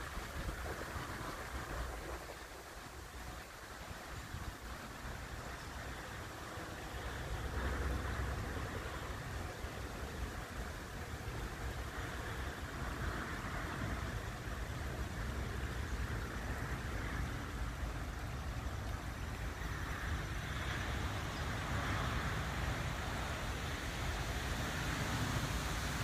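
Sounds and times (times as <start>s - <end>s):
road traffic hiss: 0.0s - 26.0s.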